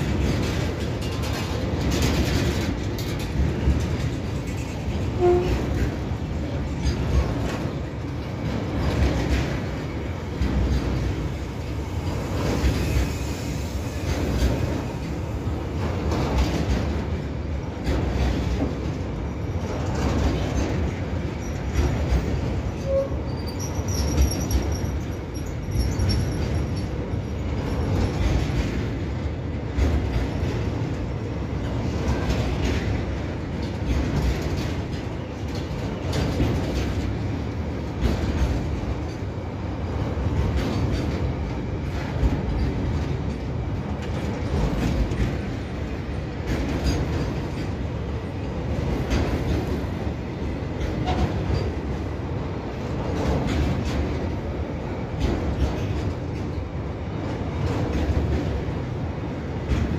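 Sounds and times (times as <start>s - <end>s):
steel wheels rumbling on rail: 0.0s - 59.9s
wheels clacking over rail joints: 0.0s - 59.9s.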